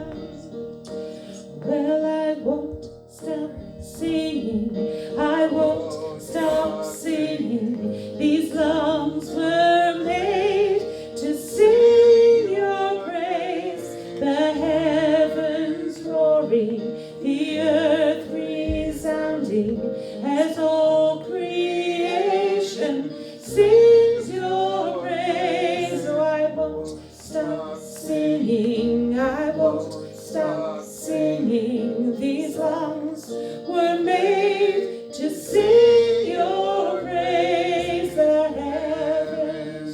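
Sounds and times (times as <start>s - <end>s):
instrumental accompaniment chords: 0.0s - 39.9s.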